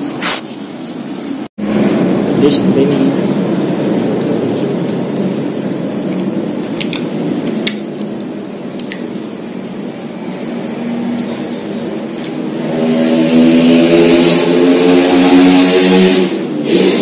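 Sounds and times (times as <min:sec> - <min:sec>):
engine humming: 0:01.4 - 0:16.8.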